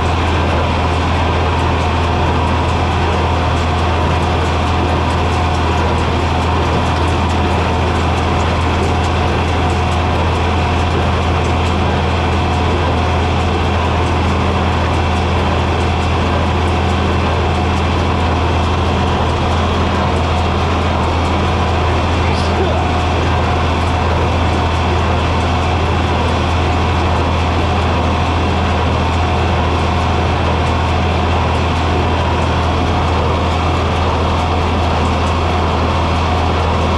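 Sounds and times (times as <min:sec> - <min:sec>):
tractor engine droning: 0:00.0 - 0:36.9.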